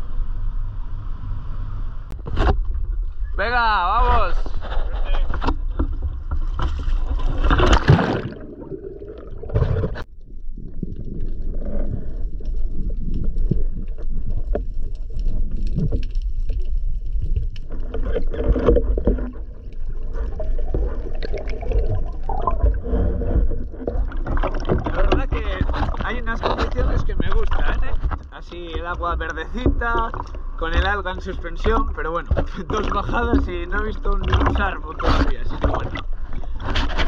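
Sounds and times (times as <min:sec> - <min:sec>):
water splashing: 0:05.5 - 0:37.0
muffled underwater water wash: 0:05.6 - 0:37.0.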